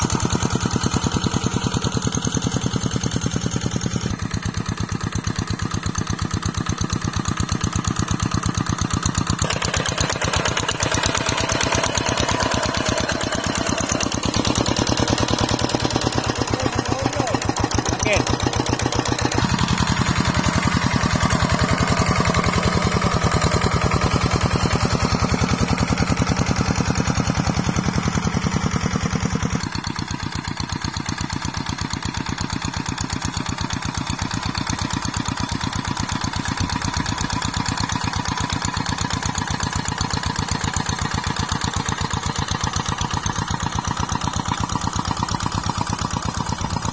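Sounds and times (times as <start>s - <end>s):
diesel engine thumping: 0.0s - 32.6s, 33.4s - 46.9s.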